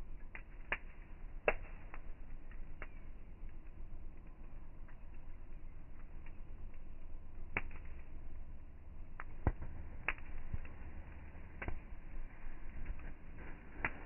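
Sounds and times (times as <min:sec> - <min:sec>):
campfire wood crackling: 0:00.0 - 0:14.0
low steady rumble: 0:00.0 - 0:14.0
sharp pops of fire: 0:00.1 - 0:14.0.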